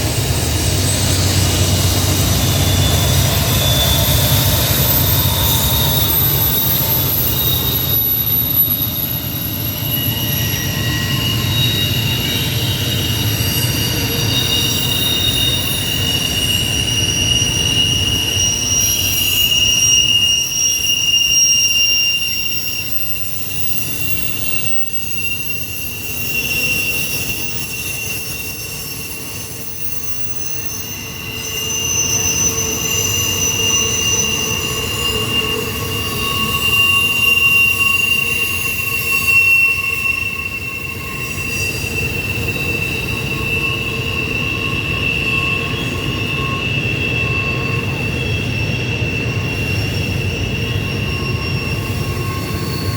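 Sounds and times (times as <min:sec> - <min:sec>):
rumble of rolling train cars: 0:00.0 - 0:52.9
train wheels squealing: 0:00.0 - 0:52.9.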